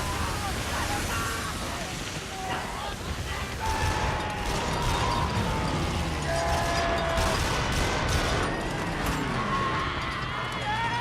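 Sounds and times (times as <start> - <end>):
rapid gunfire: 0.0 - 9.4.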